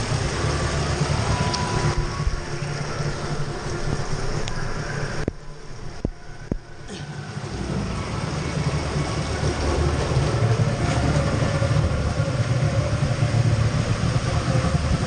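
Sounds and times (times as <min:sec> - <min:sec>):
rider sliding down water slide: 0:00.0 - 0:05.3, 0:07.1 - 0:15.0.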